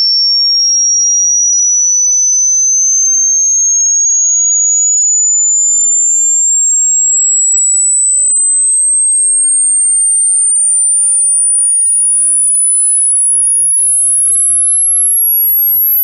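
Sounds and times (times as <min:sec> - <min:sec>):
high tone sweeping upward: 0:00.0 - 0:16.0.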